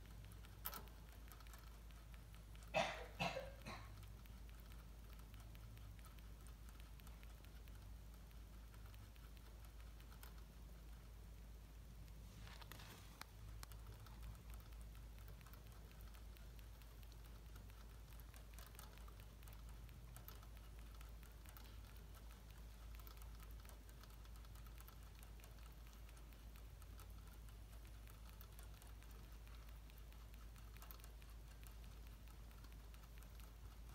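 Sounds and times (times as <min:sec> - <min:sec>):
low steady hum: 0:00.0 - 0:33.9
rabbit licking water bottle spout: 0:00.0 - 0:33.9.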